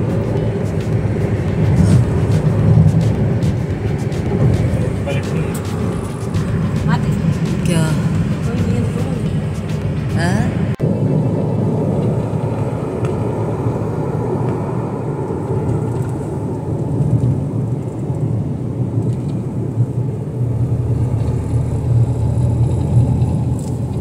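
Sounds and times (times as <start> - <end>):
car interior road rumble: 0.0 - 24.0.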